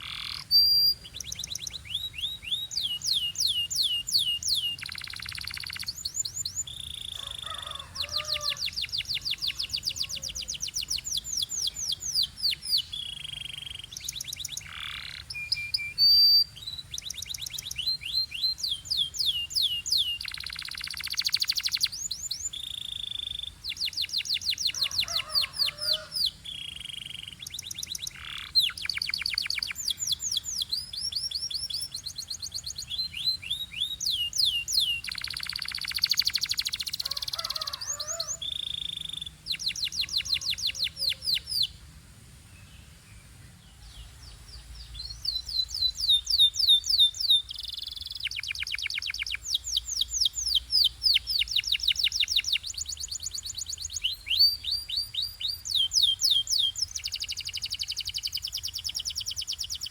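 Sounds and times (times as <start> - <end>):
canary singing trills: 0.0 - 41.8, 43.8 - 59.9.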